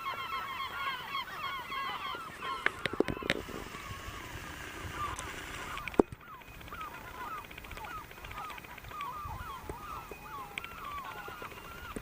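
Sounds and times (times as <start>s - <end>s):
seagulls calling: 0.0s - 12.0s.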